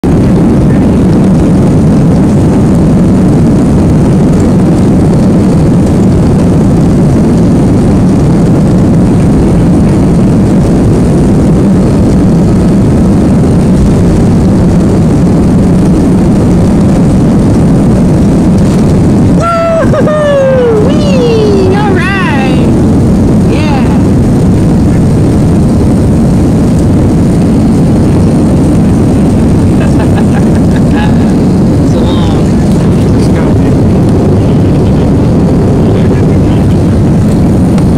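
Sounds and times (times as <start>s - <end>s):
jet engine cabin rumble: 0.0s - 37.9s.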